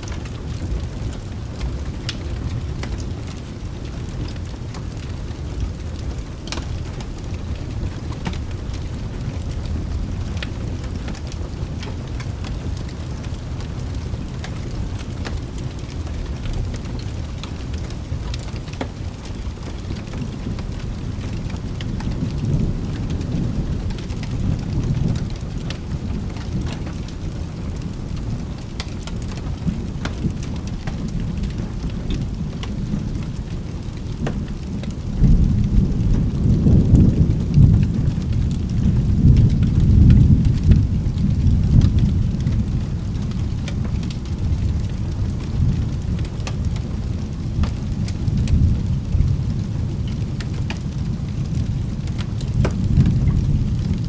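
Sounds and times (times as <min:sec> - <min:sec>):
rolling thunder: 0:00.0 - 0:54.0
steady rain: 0:00.0 - 0:54.0.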